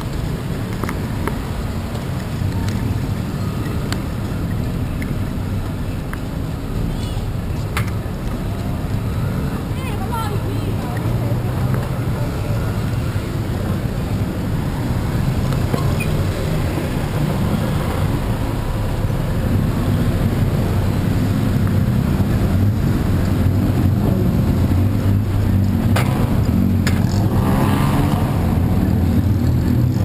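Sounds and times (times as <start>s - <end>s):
street traffic engines: 0.0s - 30.0s.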